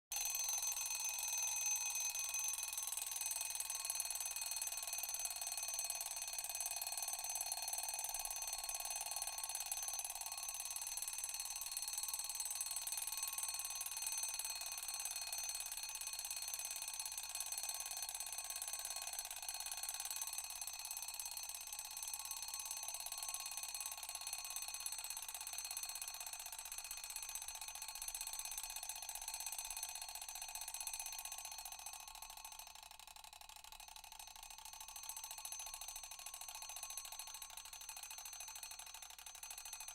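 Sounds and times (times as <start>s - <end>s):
mechanical alarm clock ringing: 0.1s - 39.9s.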